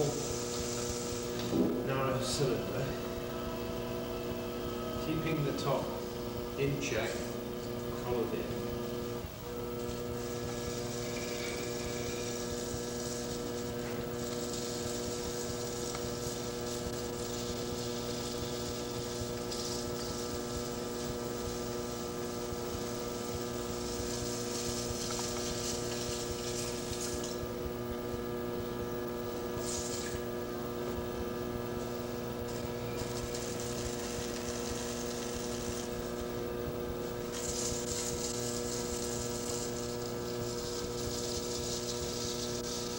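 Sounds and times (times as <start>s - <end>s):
potter's wheel humming: 0.0s - 42.9s.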